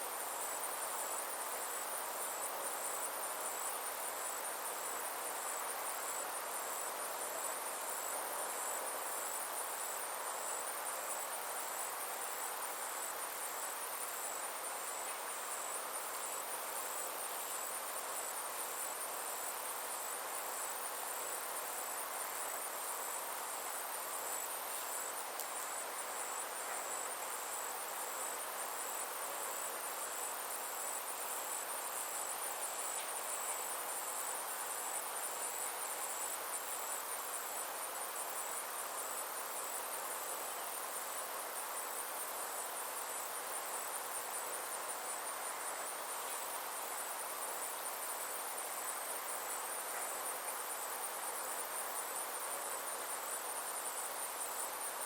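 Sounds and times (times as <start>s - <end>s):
insects trilling: 0.0s - 55.0s
outdoor hiss: 0.0s - 55.0s.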